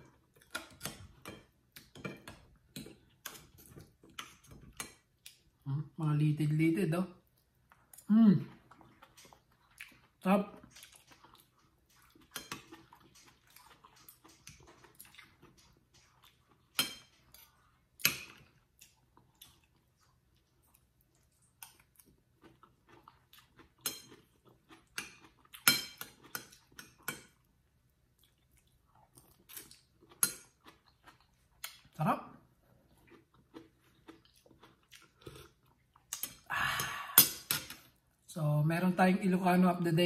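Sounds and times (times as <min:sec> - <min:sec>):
quiet chewing: 0:00.0 - 0:05.6, 0:07.2 - 0:38.2.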